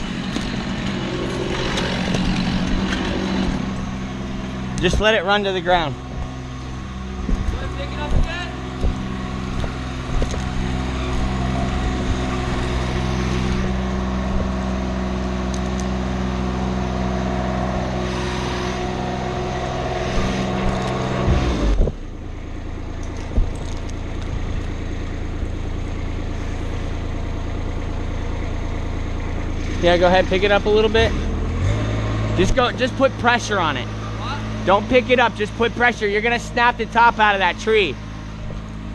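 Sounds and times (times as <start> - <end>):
engine running: 0.0 - 38.9
low engine drone: 0.0 - 38.9.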